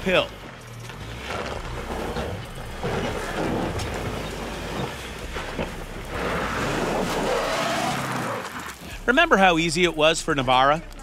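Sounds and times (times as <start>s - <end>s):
pickup engine pulling uphill: 0.0s - 11.0s
wheels scattering gravel: 0.0s - 11.0s.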